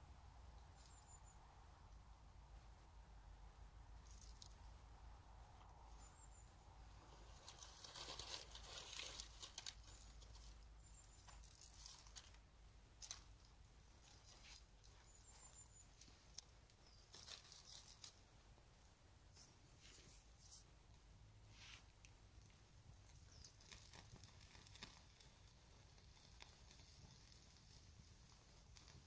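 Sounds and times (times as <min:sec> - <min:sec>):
dry bark and twigs rustling: 0:03.9 - 0:04.9, 0:05.5 - 0:29.0.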